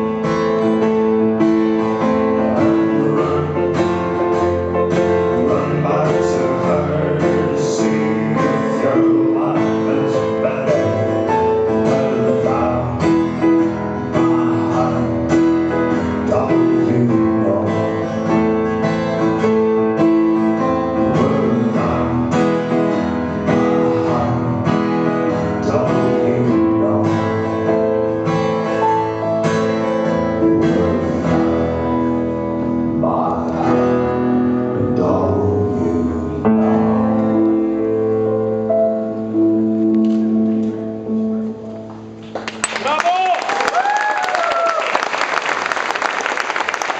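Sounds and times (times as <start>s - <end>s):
band playing with plucked guitar: 0.0s - 42.4s.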